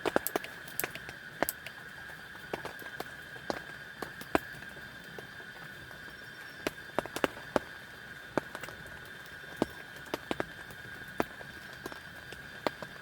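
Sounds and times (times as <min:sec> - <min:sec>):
sharp taps and crackles: 0:00.0 - 0:05.3, 0:06.0 - 0:07.7, 0:08.3 - 0:13.0.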